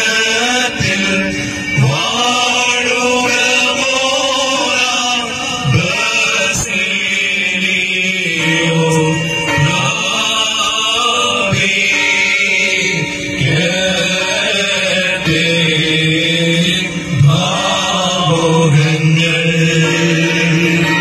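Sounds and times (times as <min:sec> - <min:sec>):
men chanting a hymn in unison: 0:00.0 - 0:21.0.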